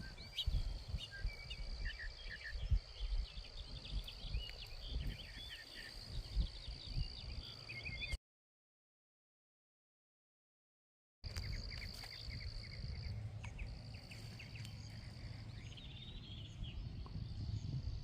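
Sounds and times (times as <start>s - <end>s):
bird song: 0.0s - 8.2s, 11.2s - 18.0s.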